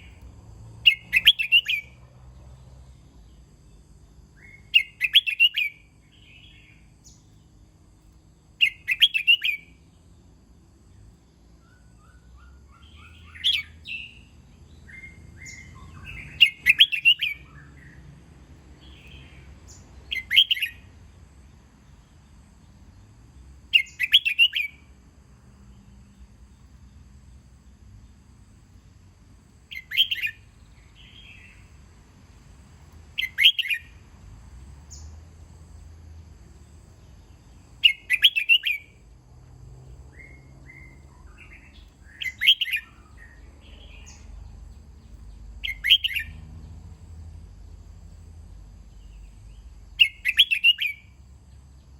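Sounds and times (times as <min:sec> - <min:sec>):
bulbul singing: 0:00.0 - 0:02.0, 0:02.9 - 0:18.1, 0:18.7 - 0:25.0, 0:25.7 - 0:31.9, 0:32.8 - 0:34.1, 0:36.5 - 0:39.1, 0:40.1 - 0:51.9.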